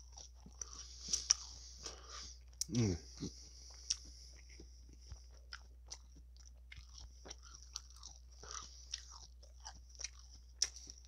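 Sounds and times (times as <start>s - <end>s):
chewing food: 0.0s - 2.7s, 3.6s - 11.0s.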